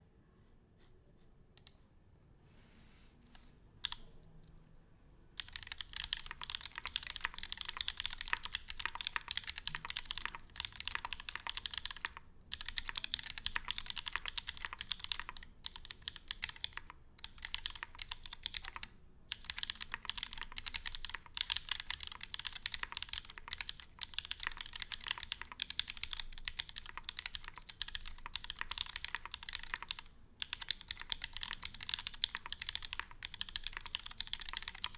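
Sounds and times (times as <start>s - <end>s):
mechanical keyboard typing: 3.8s - 4.1s, 5.4s - 34.9s.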